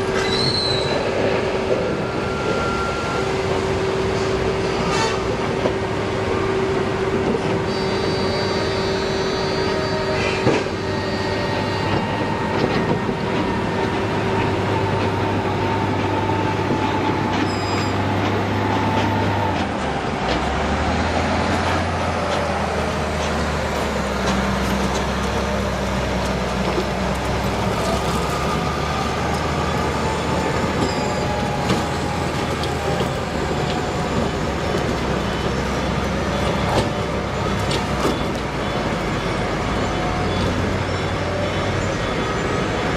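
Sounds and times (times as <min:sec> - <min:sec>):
diesel engines droning: 0:00.0 - 0:42.9.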